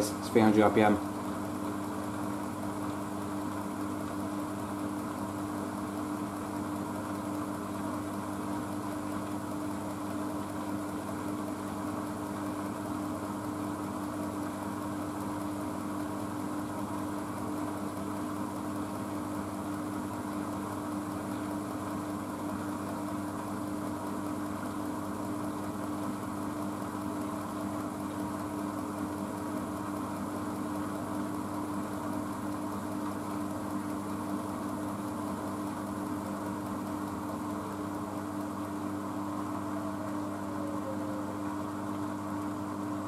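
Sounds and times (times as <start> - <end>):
washing machine spinning: 0.0 - 43.0.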